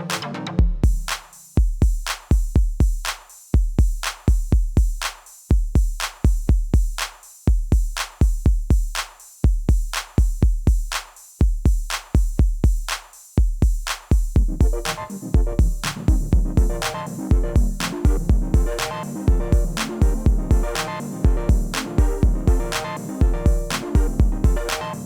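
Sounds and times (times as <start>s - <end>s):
electronic drum machine beat: 0.6s - 25.0s.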